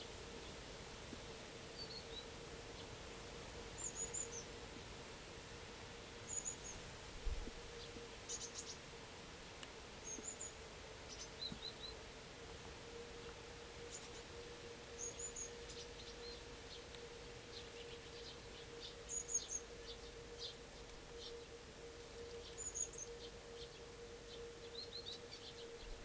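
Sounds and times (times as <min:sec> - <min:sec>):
songbirds chirping: 0:00.0 - 0:26.0
steady low hum: 0:00.0 - 0:26.0.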